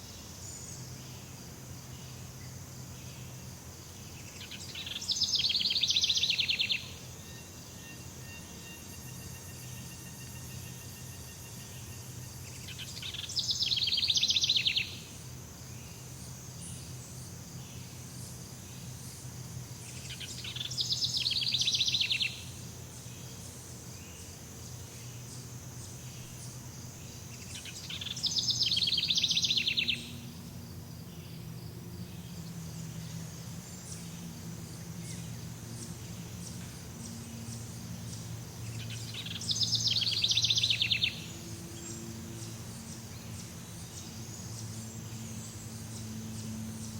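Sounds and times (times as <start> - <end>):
high insect whine: 0.0 - 46.9.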